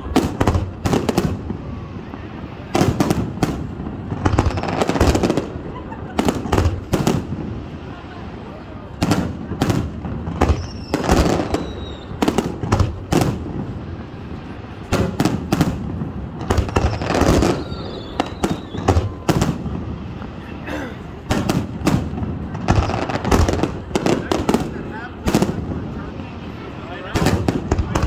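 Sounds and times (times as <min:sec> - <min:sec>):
fireworks booming: 0:00.0 - 0:28.0
fireworks crackle: 0:00.0 - 0:28.0.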